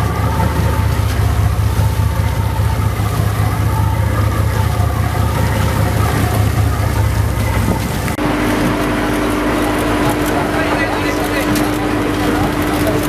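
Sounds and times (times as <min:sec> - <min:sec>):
boat engine droning: 0:00.0 - 0:13.0
water rushing past hull: 0:00.0 - 0:13.0.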